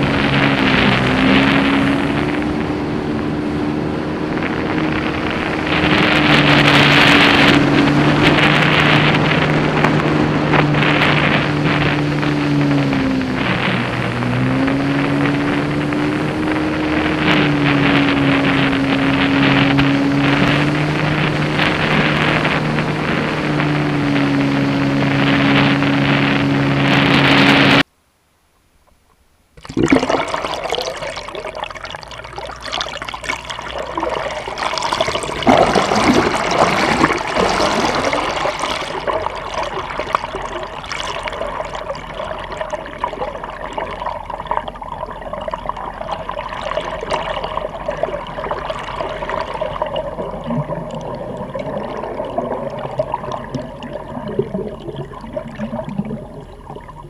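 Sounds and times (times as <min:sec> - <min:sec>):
underwater rushing bubbling water: 0:00.0 - 0:27.8, 0:29.6 - 0:57.0
boat engine running: 0:00.0 - 0:27.9, 0:28.9 - 0:57.0
faint steady hum: 0:00.0 - 0:57.0.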